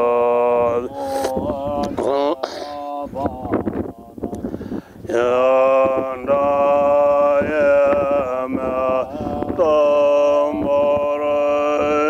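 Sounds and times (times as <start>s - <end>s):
man chanting a prayer: 0.0s - 4.3s, 5.1s - 12.0s.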